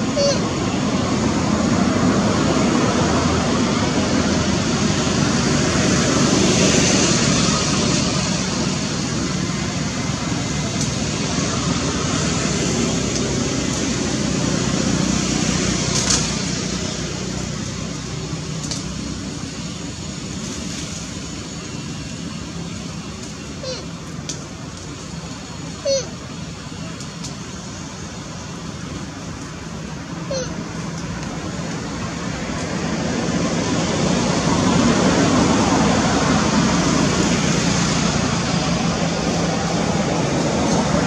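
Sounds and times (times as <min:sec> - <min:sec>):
rushing outdoor background noise: 0:00.0 - 0:41.0.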